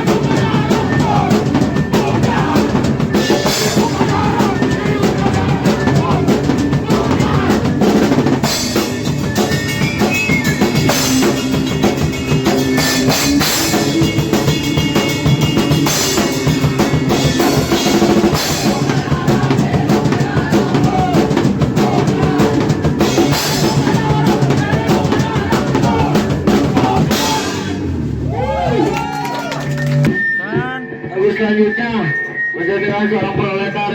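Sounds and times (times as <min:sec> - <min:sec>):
drum kit pounding: 0:00.0 - 0:29.2
distorted guitar and bass: 0:00.0 - 0:31.1
punk band playing: 0:00.0 - 0:31.1.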